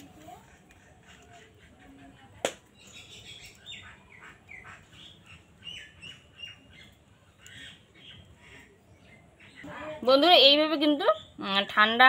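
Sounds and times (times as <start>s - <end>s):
birds chirping: 0.0s - 12.0s
faint background noise: 0.0s - 12.0s.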